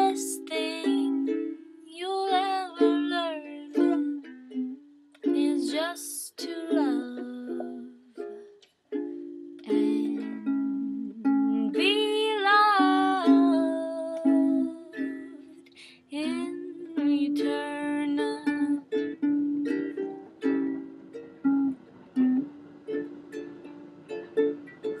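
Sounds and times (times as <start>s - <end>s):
ukulele playing slow tune: 0.0s - 25.0s.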